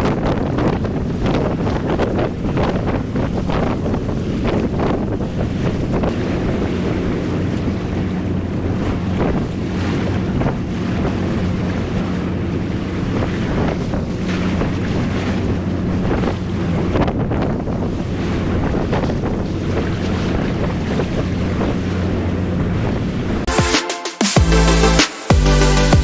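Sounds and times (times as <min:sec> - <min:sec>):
wind buffeting microphone: 0:00.0 - 0:23.5
boat engine droning: 0:00.0 - 0:23.7
water washing: 0:00.0 - 0:23.8.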